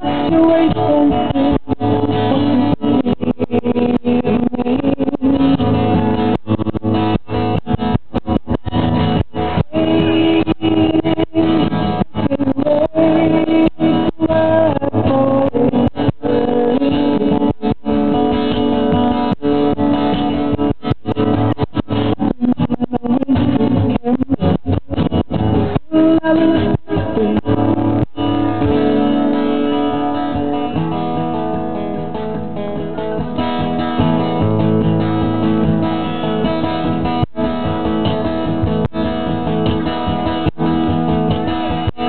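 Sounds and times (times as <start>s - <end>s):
song with guitar: 0.0s - 42.0s.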